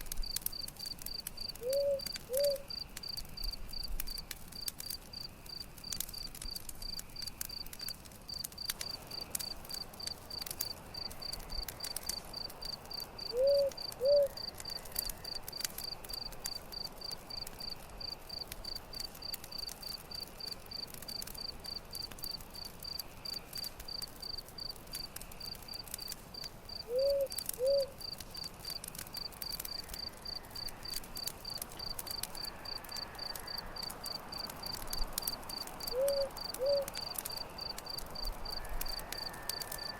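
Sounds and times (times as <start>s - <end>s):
campfire crackling: 0.0s - 39.9s
crickets chirping: 0.2s - 7.7s, 8.3s - 39.9s.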